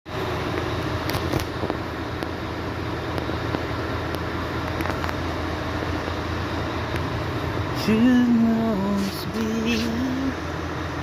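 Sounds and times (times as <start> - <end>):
truck engine drone: 0.1 - 11.0.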